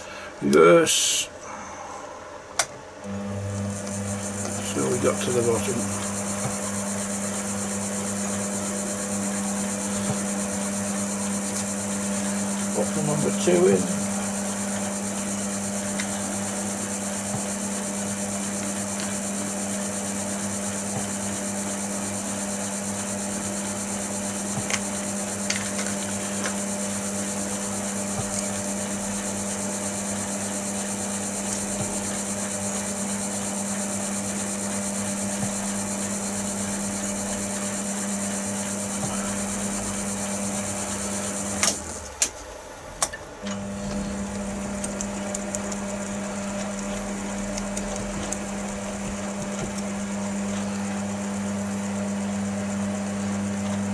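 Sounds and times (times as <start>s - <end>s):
lathe electric hum: 0.0s - 53.9s.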